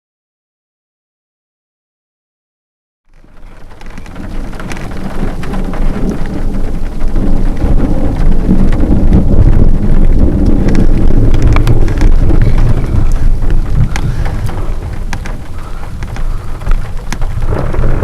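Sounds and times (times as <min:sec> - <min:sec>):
heavy rain: 0:03.1 - 0:18.0
raindrops ticking: 0:03.1 - 0:18.0
thunder rumbling: 0:03.2 - 0:18.0.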